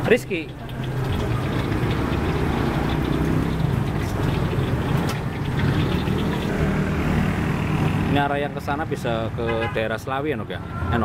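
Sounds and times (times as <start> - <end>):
motorcycle engines running: 0.0 - 9.3.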